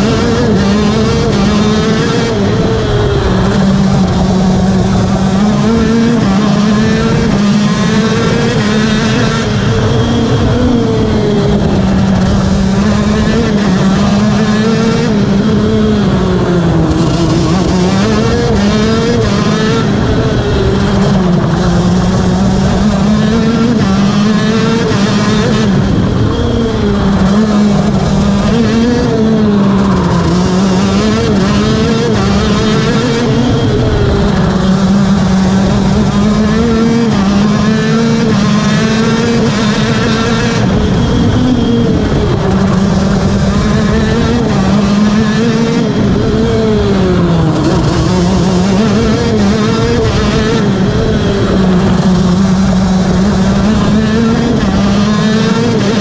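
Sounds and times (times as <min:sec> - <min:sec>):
kart engine racing: 0:00.0 - 0:56.0.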